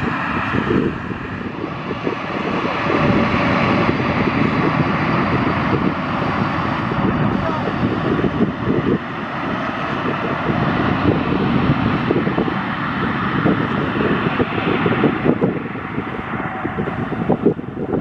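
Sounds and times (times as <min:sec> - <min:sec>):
jet engines at takeoff: 0:00.0 - 0:18.0
wind buffeting microphone: 0:00.0 - 0:18.0.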